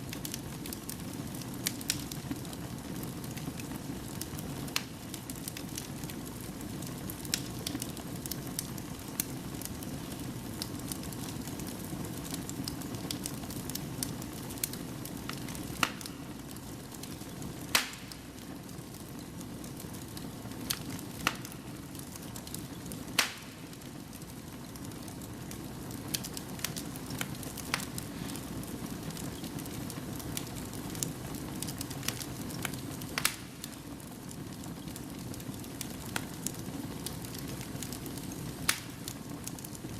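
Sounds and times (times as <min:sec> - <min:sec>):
fire burning: 0:00.0 - 0:39.9
fire crackling and popping: 0:00.0 - 0:39.9.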